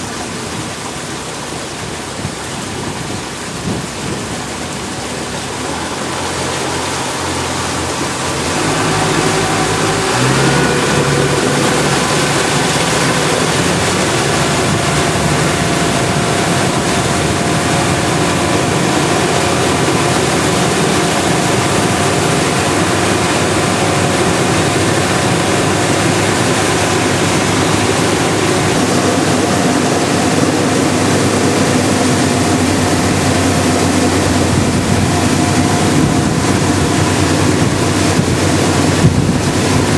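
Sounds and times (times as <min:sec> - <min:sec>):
motorboat engine: 0:00.0 - 0:39.9
water rushing past hull: 0:00.0 - 0:39.9.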